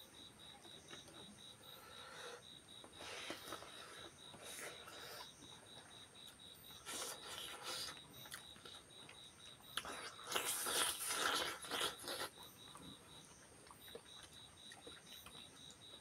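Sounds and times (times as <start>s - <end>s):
people chewing: 0.7s - 5.9s, 6.7s - 16.0s.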